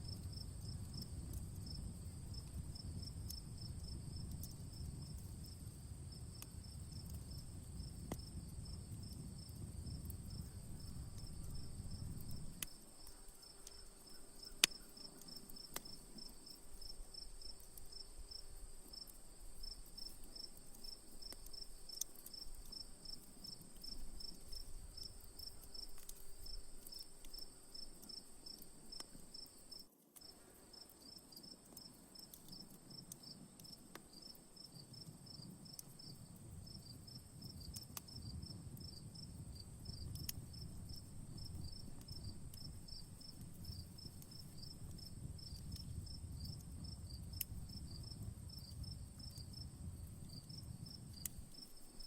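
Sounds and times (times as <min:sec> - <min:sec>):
campfire crackling and popping: 0:00.0 - 0:52.0
crickets chirping: 0:00.0 - 0:52.0.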